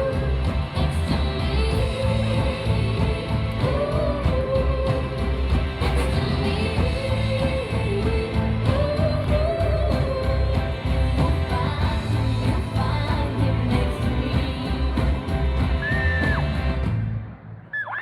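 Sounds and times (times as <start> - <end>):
person singing: 0.0 - 16.6
live band playing: 0.0 - 17.2.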